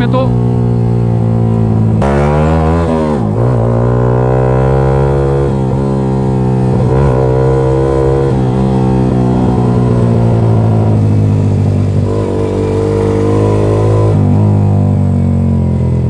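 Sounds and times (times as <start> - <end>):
motorcycle engine running loud: 0.0 - 16.0.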